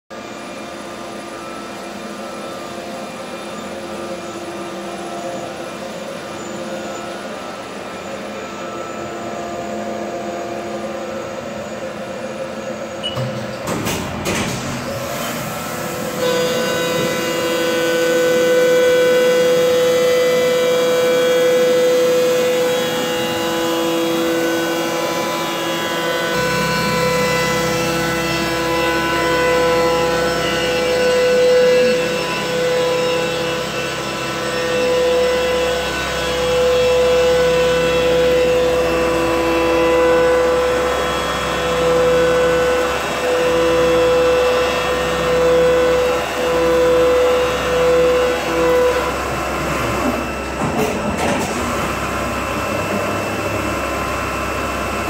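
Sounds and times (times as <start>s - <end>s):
milling machine whine: 0.1s - 55.0s.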